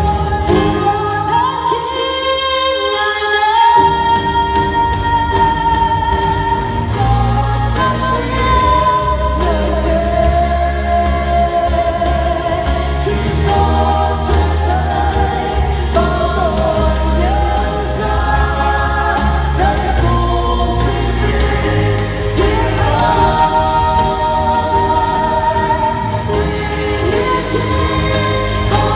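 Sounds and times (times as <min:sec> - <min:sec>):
amplified accompaniment with bass: 0:00.0 - 0:28.9
people singing into microphones: 0:00.0 - 0:28.9.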